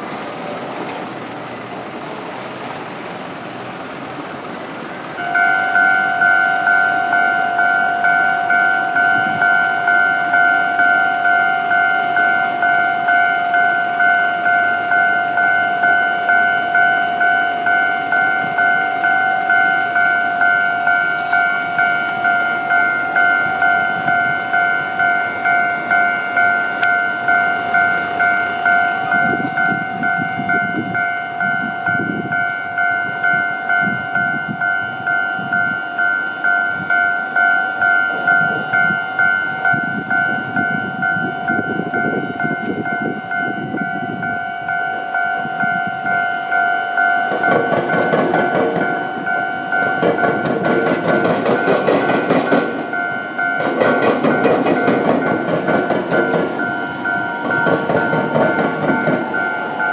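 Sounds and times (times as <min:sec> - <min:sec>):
train wheels clattering on rails: 0:00.0 - 0:44.2, 0:46.0 - 0:59.9
level crossing bell ringing: 0:05.2 - 0:59.9.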